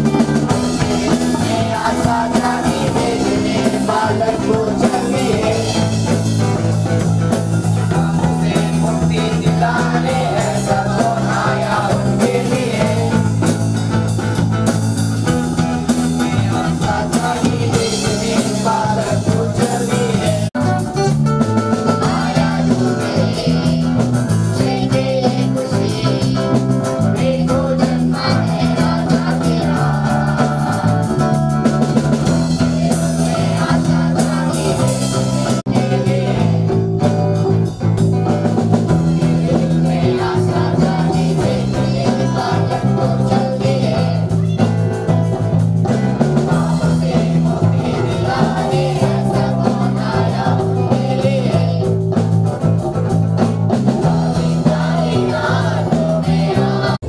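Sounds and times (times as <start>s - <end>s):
group singing: 0.0s - 14.4s, 15.2s - 20.6s, 21.7s - 37.5s, 38.5s - 44.6s, 45.3s - 52.7s, 53.8s - 57.0s
electric bass: 0.0s - 57.0s.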